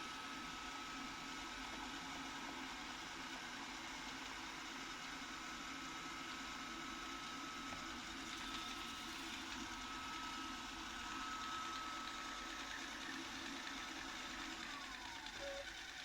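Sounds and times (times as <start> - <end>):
robot vacuum cleaner whirring: 0.0 - 16.0.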